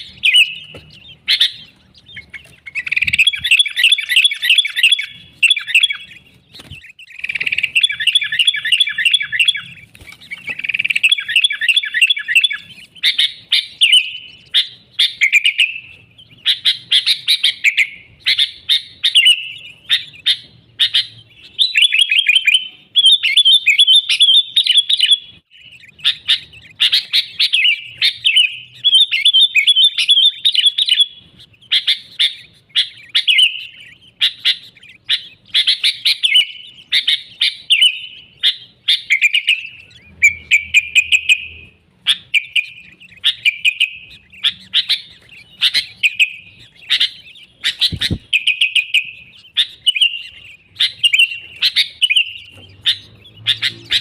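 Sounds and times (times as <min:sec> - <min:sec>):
bulbul singing: 0:00.0 - 0:54.0.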